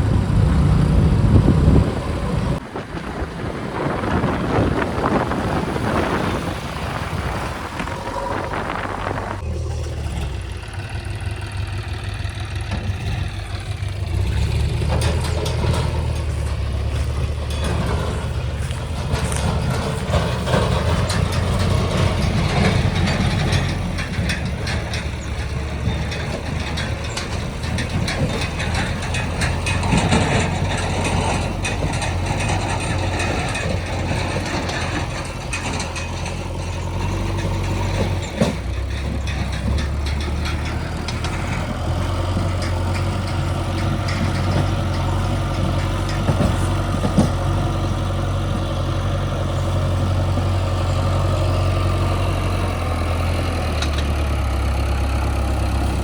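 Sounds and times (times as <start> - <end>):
diesel machinery engines running: 0.0 - 56.0
machinery clanks and knocks: 7.6 - 56.0.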